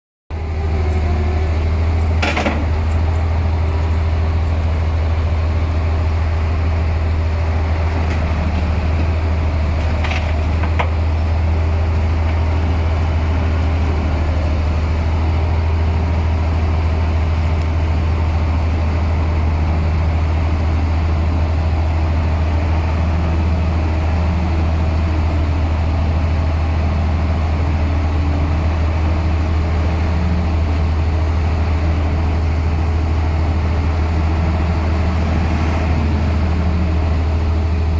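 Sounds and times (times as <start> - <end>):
heavy diesel engine rumbling: 0.3 - 37.9.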